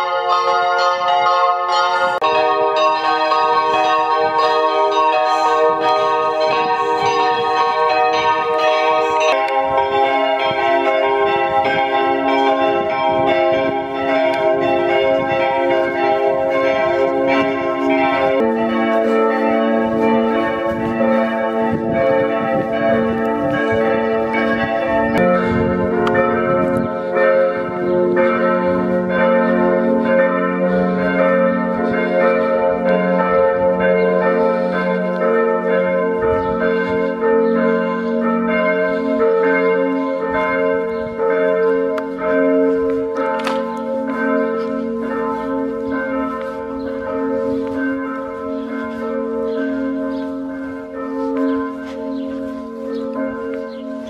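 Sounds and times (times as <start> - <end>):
church bells pealing: 0.0 - 54.0.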